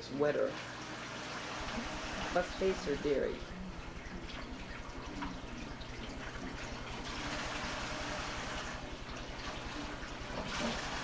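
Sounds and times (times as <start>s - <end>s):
water running and splashing: 0.4s - 11.0s
steady low hum: 1.1s - 11.0s.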